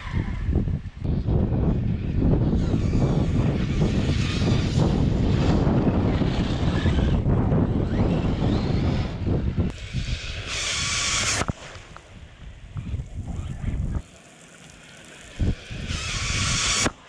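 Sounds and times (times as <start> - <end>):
rc car electric motor whine: 0.0 - 12.0, 12.8 - 17.0
wind buffeting microphone: 0.0 - 14.1, 15.1 - 17.0.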